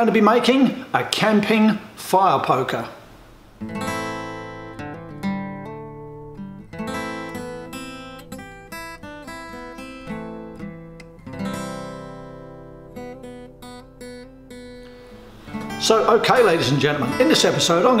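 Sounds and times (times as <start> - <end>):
acoustic guitar music: 3.4 - 18.0.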